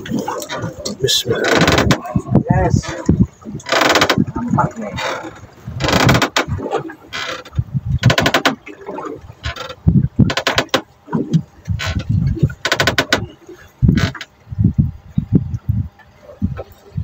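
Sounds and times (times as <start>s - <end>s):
low buffeting on microphone: 0.0s - 17.0s.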